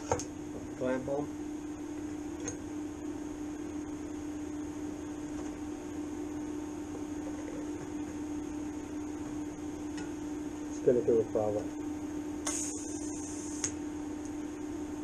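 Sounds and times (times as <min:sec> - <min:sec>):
welder electrical hum with fan: 0:00.0 - 0:15.0.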